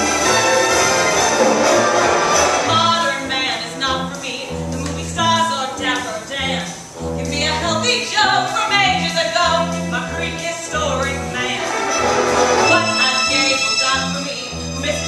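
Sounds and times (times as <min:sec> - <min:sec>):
instrumental accompaniment: 0:00.0 - 0:15.0
steady bass line: 0:00.0 - 0:15.0.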